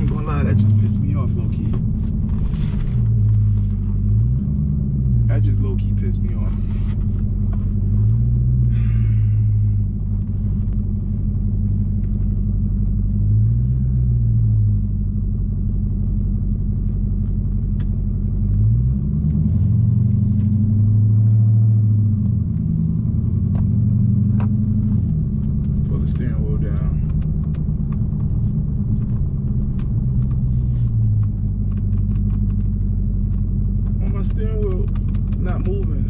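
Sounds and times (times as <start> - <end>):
car engine drone from inside cabin: 0.0 - 36.0.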